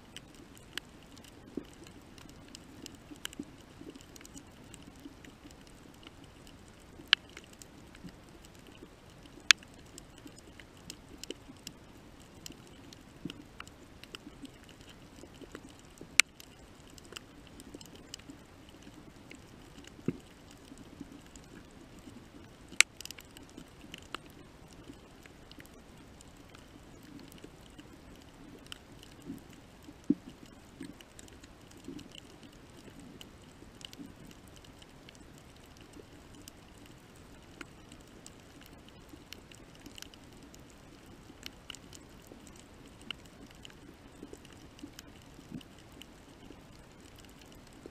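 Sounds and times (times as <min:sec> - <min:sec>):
faint steady hum: 0:00.0 - 0:47.9
underwater clicks and crackles: 0:00.0 - 0:47.9.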